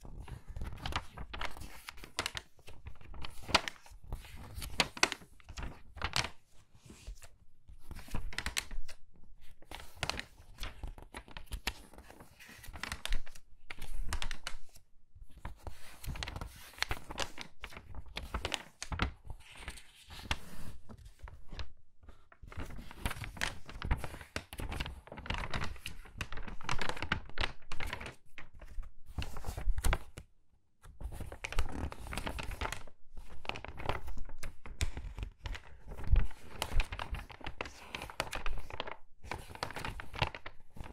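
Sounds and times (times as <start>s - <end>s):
magazine pages turning: 0.1s - 14.8s, 15.4s - 30.2s, 30.9s - 40.9s.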